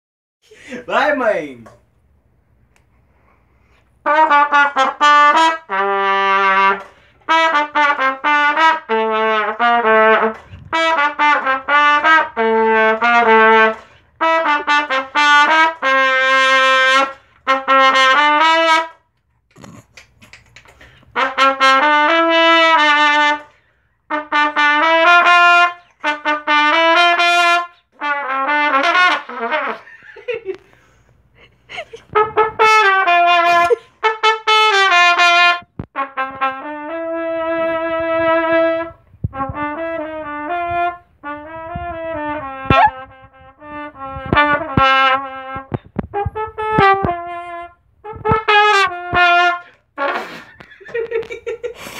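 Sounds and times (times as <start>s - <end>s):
trumpet playing tongued notes: 4.0s - 19.1s, 20.8s - 29.9s, 32.1s - 50.7s.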